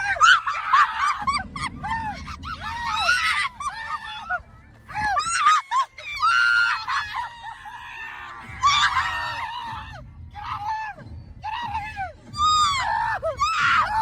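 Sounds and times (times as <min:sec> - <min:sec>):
people screaming: 0:00.0 - 0:14.0.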